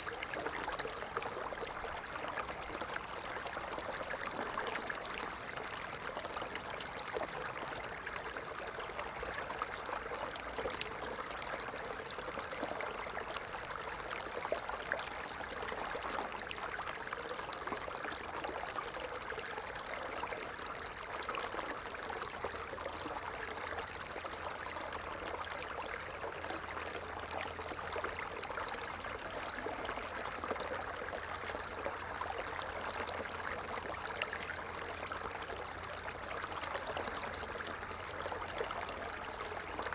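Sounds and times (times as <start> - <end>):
stream babbling and trickling: 0.0 - 39.9.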